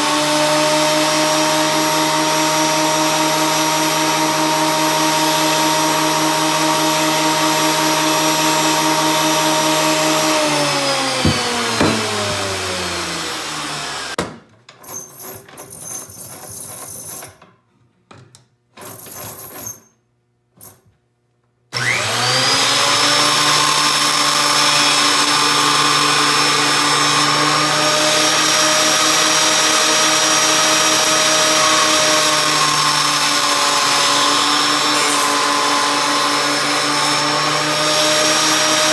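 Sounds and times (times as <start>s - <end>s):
electric wood planer motor whining: 0.0s - 14.2s, 21.8s - 38.9s.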